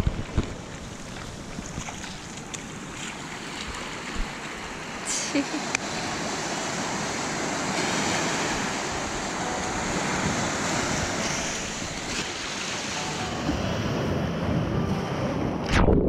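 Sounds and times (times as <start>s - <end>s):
small waves washing over sand: 0.0s - 14.9s.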